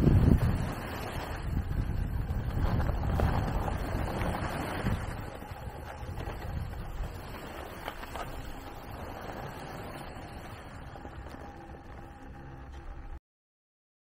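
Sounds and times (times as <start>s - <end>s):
wind buffeting microphone: 0.0s - 13.0s
skis sliding over snow: 0.0s - 13.1s.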